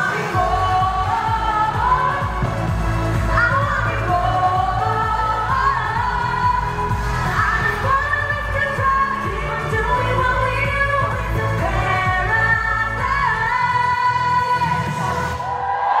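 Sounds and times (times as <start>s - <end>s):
woman singing: 0.0s - 15.4s.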